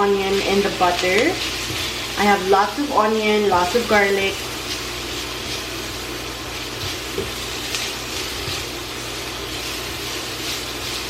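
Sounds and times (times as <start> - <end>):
garlic and onion sizzling in pan: 0.0 - 11.0
stirring in frying pan: 0.0 - 11.0.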